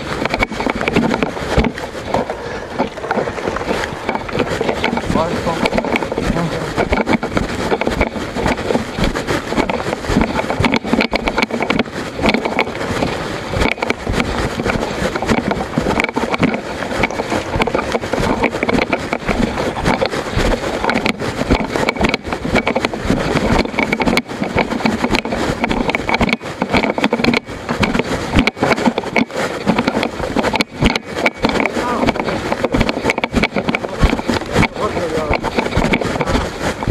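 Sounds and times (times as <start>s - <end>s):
camera rattling and knocking: 0.0s - 36.9s
wind noise: 0.0s - 36.9s.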